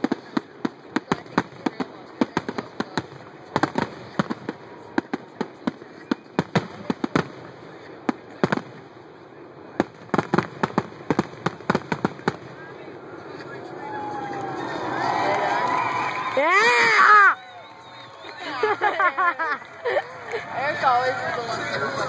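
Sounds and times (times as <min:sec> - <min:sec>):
fireworks bursts and crackling: 0:00.0 - 0:22.0.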